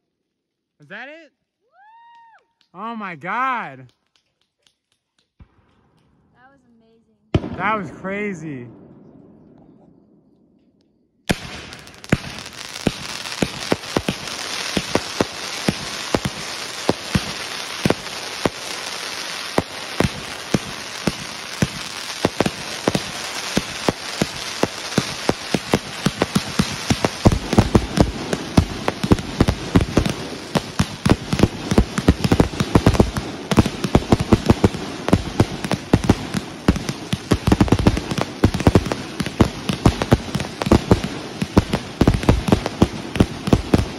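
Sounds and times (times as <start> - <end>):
fireworks crackling and popping: 0.0 - 8.6, 11.3 - 43.9
firework bangs: 7.3 - 10.1, 11.3 - 43.9.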